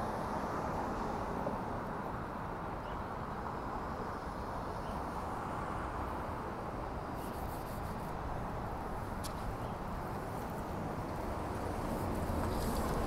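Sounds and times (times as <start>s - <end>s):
bus approaching: 0.0s - 13.0s
street traffic noise: 0.0s - 13.0s.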